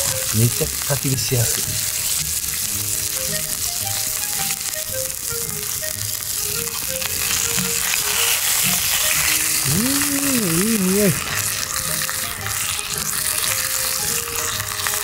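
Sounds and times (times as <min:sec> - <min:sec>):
faint background music: 0:00.0 - 0:15.0
pork sizzling over campfire: 0:00.0 - 0:15.0.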